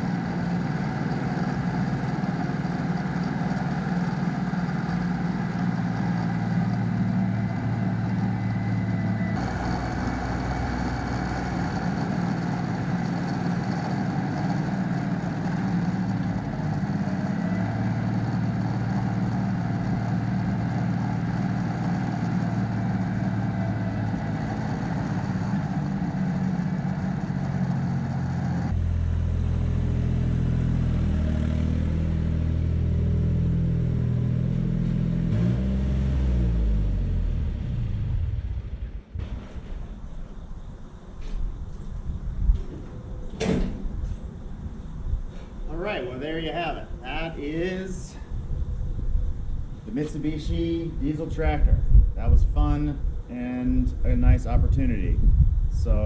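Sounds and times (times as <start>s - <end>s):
tractor diesel engine running: 0.0s - 53.3s.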